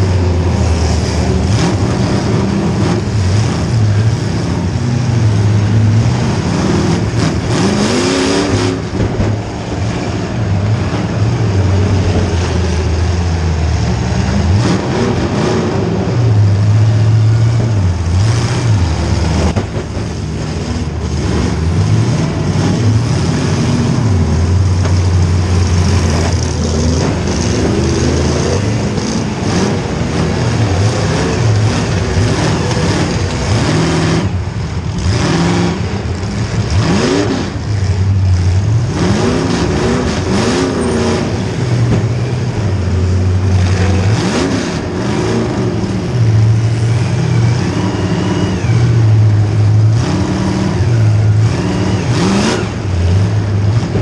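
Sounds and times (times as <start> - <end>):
car engine revving: 0.0 - 54.0
other engines: 0.0 - 54.0.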